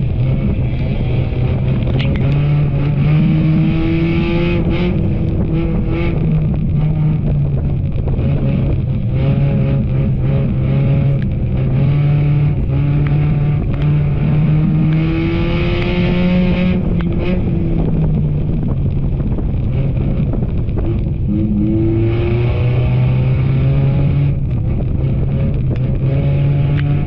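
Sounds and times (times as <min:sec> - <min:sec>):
race car engines: 0:00.0 - 0:27.0.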